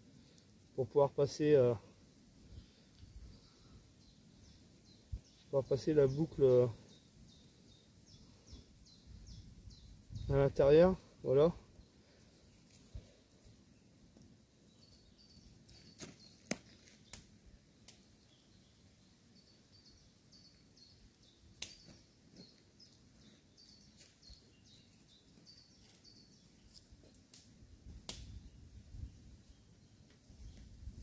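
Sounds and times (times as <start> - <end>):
faint bird chirping: 0.0 - 27.2, 28.3 - 31.0.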